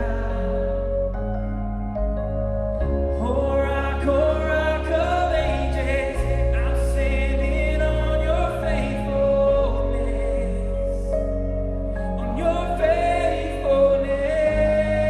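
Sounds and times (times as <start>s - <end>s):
person singing: 0.0s - 1.6s, 2.8s - 15.0s
worship band playing slow song: 0.0s - 15.0s.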